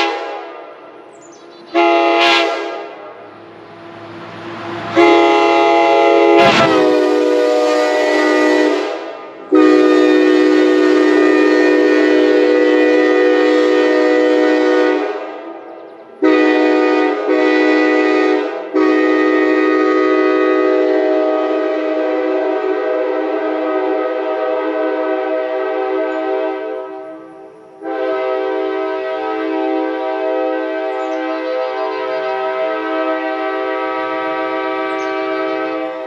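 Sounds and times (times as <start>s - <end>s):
train horn chord blasts: 0.0s - 1.0s, 1.7s - 36.0s.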